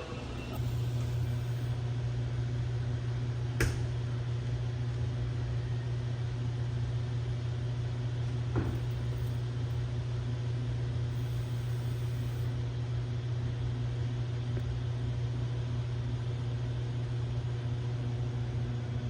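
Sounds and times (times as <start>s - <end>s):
fan blowing with low hum: 0.0s - 19.0s.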